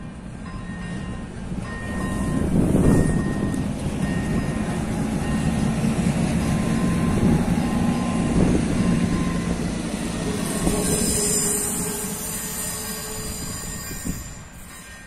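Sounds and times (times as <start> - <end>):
diesel railcars rumbling on rails: 0.0 - 15.0
train wheel squeal: 0.6 - 5.6, 6.6 - 15.0.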